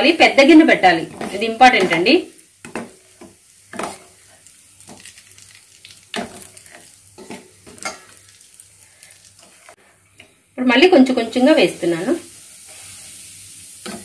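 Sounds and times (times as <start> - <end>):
oil sizzling: 0.0 - 14.0.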